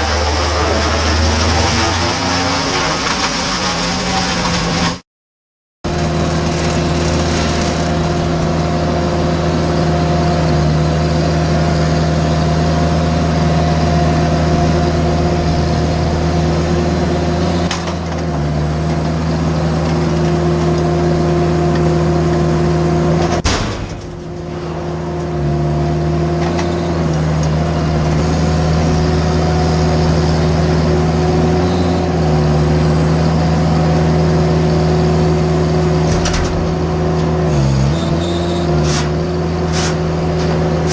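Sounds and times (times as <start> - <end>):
machine engine running: 0.0 - 5.0, 5.9 - 40.9.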